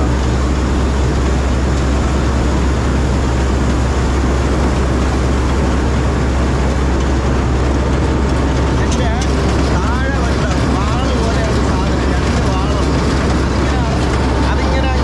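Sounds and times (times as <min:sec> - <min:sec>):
combine harvester engine droning: 0:00.0 - 0:15.0.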